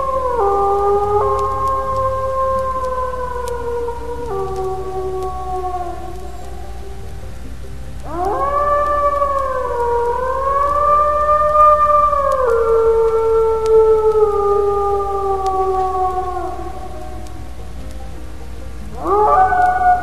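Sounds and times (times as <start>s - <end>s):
wolf howling: 0.0s - 7.0s, 8.0s - 17.9s, 18.8s - 20.0s.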